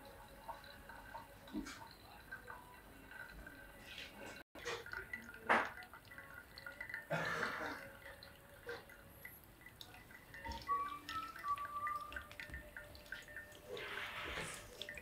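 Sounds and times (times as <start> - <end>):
coffee dripping into glass: 0.0 - 15.0
water trickling into coffee: 0.0 - 15.0.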